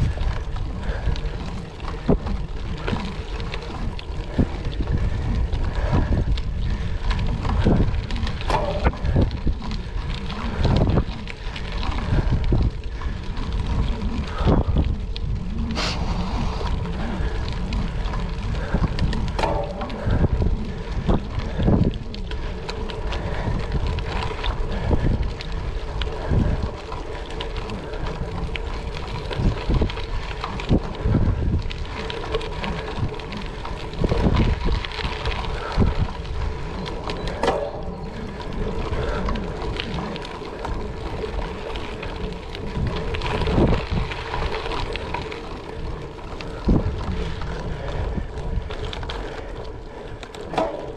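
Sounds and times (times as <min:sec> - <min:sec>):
bike tyre noise: 0:00.0 - 0:50.9
knocks and rattles on gravel: 0:00.0 - 0:50.9
wind buffeting microphone: 0:00.0 - 0:50.9.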